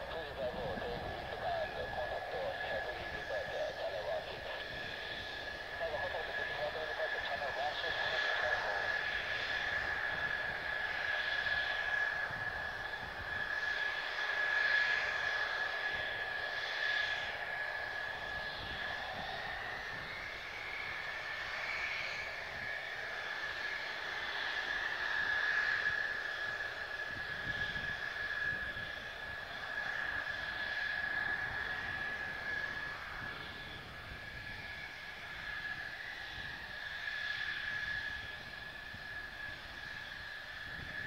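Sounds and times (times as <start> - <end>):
jet engine idling whine: 0.0 - 41.0.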